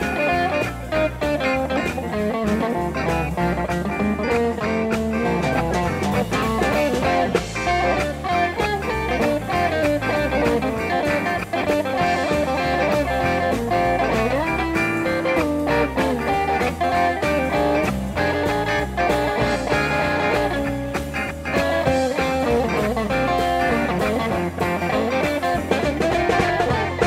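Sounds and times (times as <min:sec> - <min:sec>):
drums keeping a steady beat: 0:00.0 - 0:27.0
electric guitar lead: 0:00.0 - 0:27.0.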